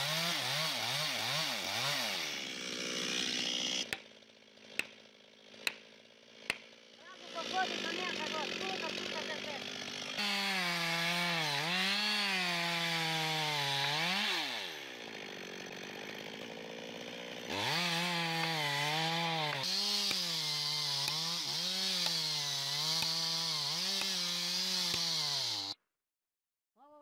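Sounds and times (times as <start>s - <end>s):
chainsaw cutting wood: 0.0s - 25.8s.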